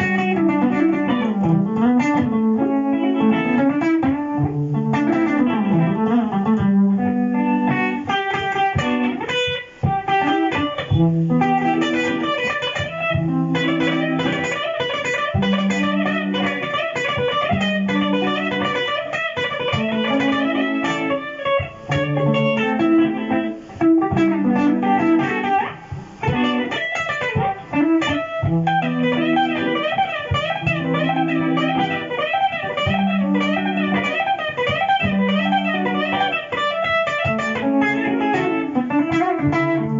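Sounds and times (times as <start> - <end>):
electric guitar jazzy lines: 0.0 - 39.9
looped guitar backing: 0.0 - 39.9.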